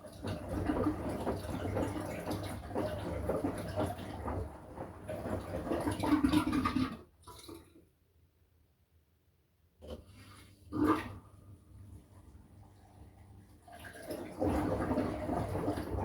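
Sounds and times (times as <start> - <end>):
water sloshing in washing machine: 0.0 - 7.9, 9.8 - 16.0.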